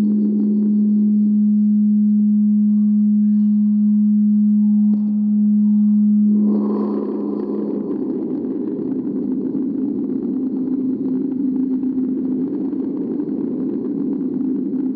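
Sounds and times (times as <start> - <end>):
low bass tone: 0.0 - 14.9
rough rumbling noise: 0.0 - 14.9.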